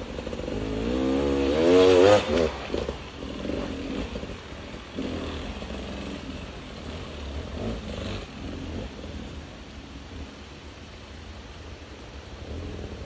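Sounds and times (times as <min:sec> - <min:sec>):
motorcycle engine revving: 0:00.0 - 0:10.6, 0:11.8 - 0:13.0.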